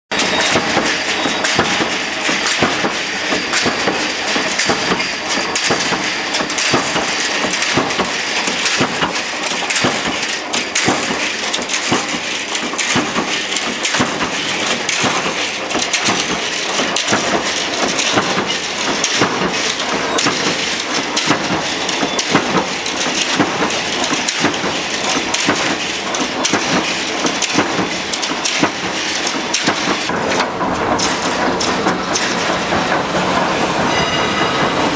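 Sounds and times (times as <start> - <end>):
punch press clattering: 0.1 - 33.4
machine running noise: 0.1 - 34.9.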